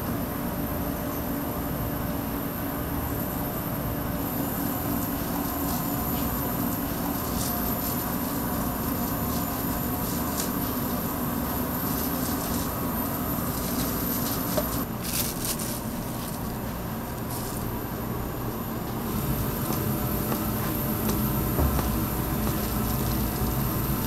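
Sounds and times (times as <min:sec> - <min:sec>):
kitchen machine hum and hiss: 0:00.0 - 0:24.0.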